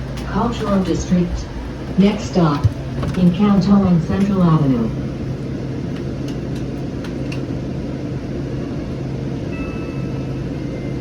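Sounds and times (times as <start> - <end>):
train car hum and rumble: 0.0 - 11.0.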